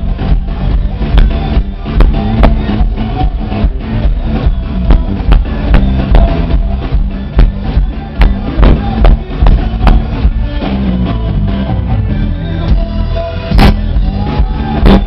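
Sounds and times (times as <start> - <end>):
driving drum beat: 0.0 - 15.0
live band music through loudspeakers: 0.0 - 15.0.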